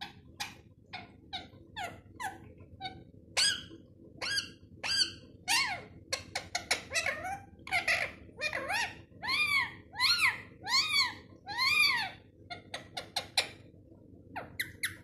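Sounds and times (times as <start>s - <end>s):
parrot squawking and chirping: 0.0s - 13.7s, 14.3s - 15.0s.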